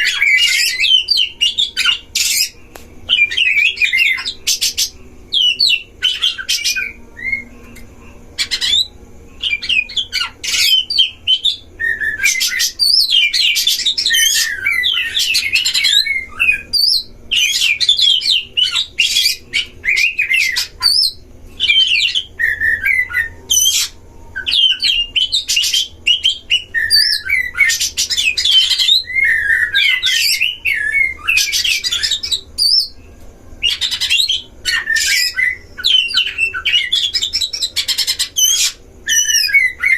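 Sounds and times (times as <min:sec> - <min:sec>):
birds singing whistled phrases: 0:00.0 - 0:39.9.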